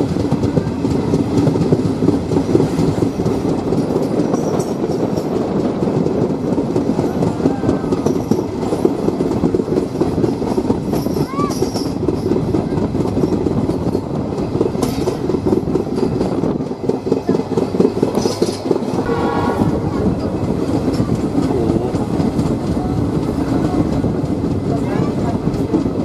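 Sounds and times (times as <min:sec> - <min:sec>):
train rumbling: 0:00.0 - 0:26.0
wheels clacking over rail joints: 0:00.0 - 0:26.0.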